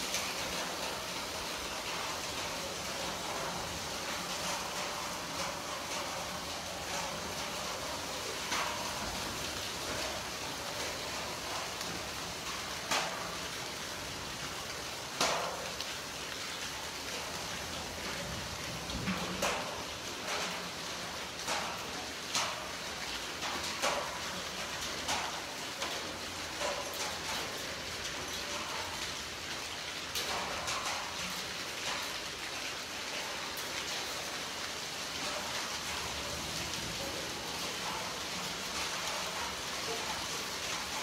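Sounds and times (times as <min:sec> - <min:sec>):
heavy rain and hail: 0:00.0 - 0:41.0.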